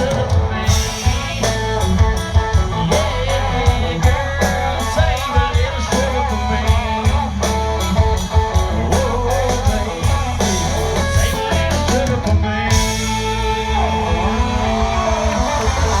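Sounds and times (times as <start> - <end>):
drum beat: 0.0 - 16.0
electric guitars: 0.0 - 16.0.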